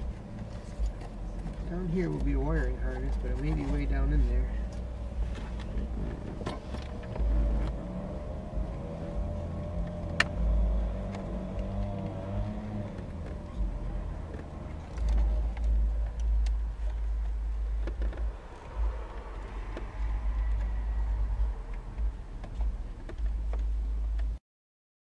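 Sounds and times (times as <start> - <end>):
vehicle engine drone: 0.0 - 24.4.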